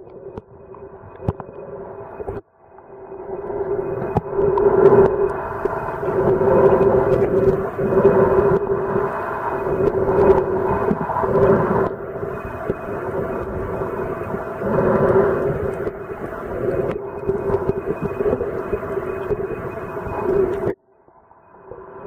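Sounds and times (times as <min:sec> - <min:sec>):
underwater mechanical drone: 0:00.0 - 0:22.0.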